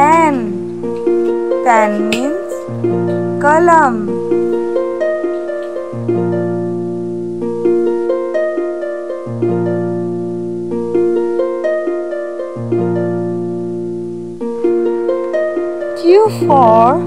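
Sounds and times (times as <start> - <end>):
plucked string tune with bass: 0.0 - 17.0.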